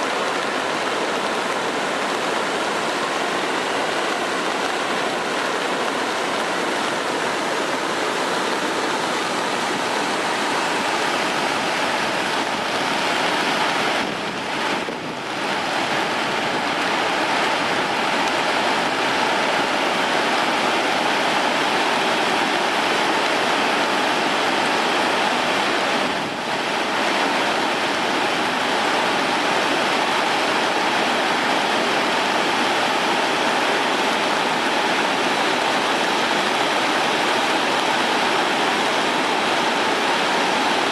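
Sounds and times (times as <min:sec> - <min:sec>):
rush of falling water: 0:00.0 - 0:40.9.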